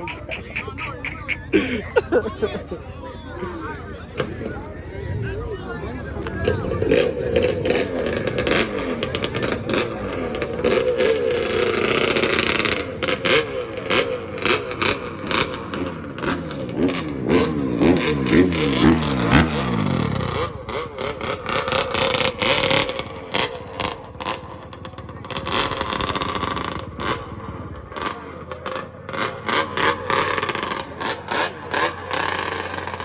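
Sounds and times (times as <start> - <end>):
dirt bike engine revving: 5.3 - 33.0.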